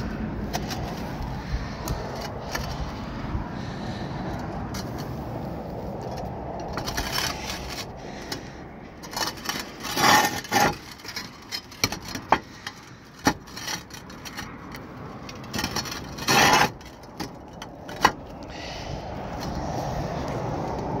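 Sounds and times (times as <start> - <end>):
roof tiles scraping and clacking: 0.0 - 19.8.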